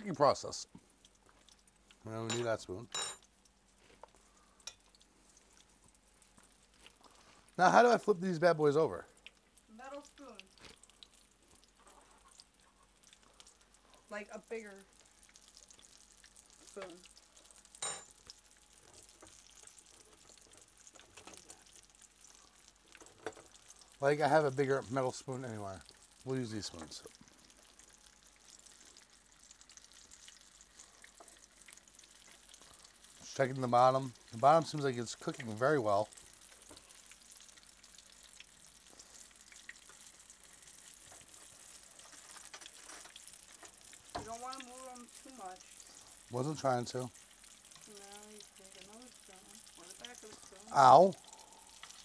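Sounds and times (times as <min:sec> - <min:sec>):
batter sizzling in hot oil: 0:00.0 - 0:52.0.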